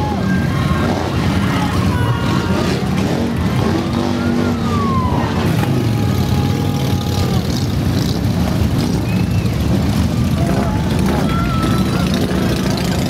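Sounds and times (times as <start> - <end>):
motorcycles rumbling past: 0.0 - 13.0.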